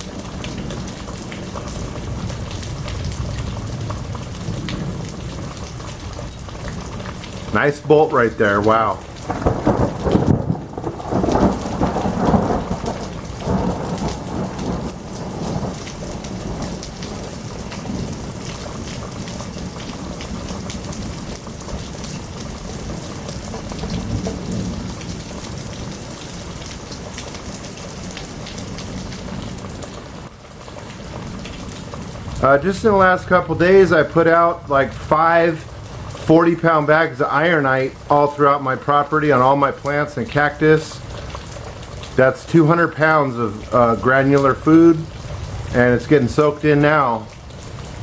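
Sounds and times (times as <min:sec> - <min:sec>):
thunder rumbling: 0:00.0 - 0:29.9, 0:32.1 - 0:48.0
heavy rain pouring: 0:00.0 - 0:48.0.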